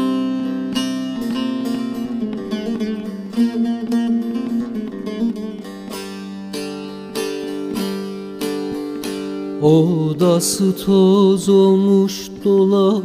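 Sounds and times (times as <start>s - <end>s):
sharp plucked notes: 0.0s - 12.7s
plucked string folk music: 0.0s - 13.0s.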